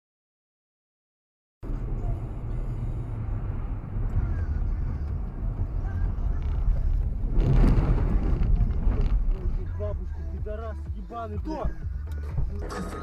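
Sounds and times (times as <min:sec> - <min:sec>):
car engine and road noise: 0:01.6 - 0:13.0.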